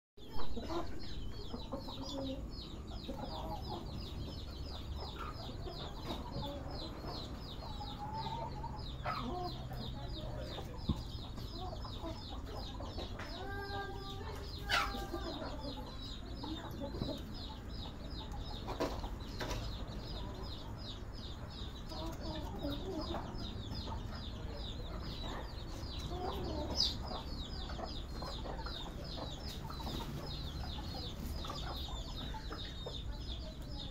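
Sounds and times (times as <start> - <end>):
chickens clucking: 0.2 - 33.9.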